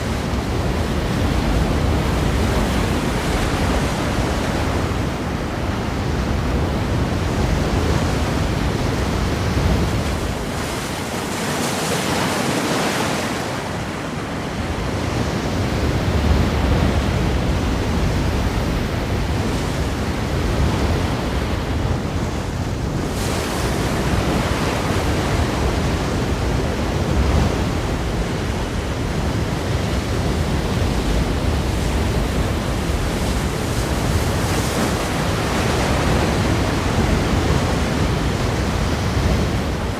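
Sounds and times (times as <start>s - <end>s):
ocean waves breaking on rocks: 0.0s - 39.9s.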